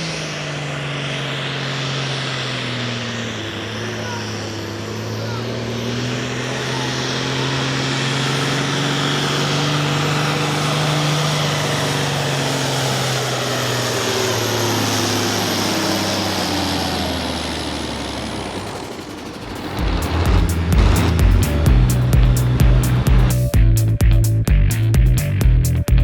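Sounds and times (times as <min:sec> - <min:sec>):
high whine: 0:00.0 - 0:26.0
tractor engine running hard: 0:00.0 - 0:26.0.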